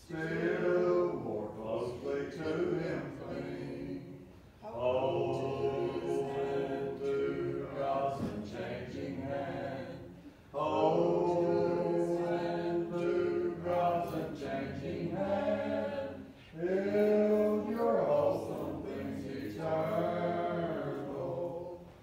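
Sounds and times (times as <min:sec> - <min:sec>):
congregation singing a hymn: 0:00.0 - 0:22.0.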